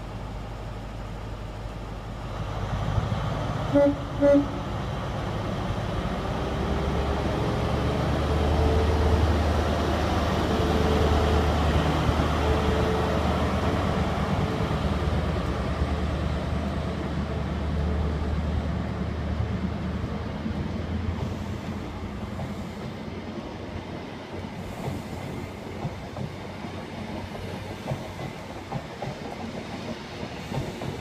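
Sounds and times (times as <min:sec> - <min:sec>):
train diesel engine drone: 0:00.0 - 0:31.0.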